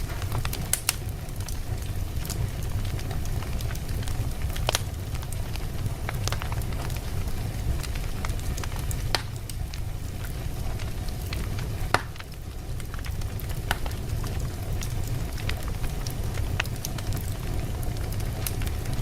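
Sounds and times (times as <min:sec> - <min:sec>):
fire rumbling in fireplace: 0:00.0 - 0:19.0
wood crackling and popping: 0:00.0 - 0:19.0.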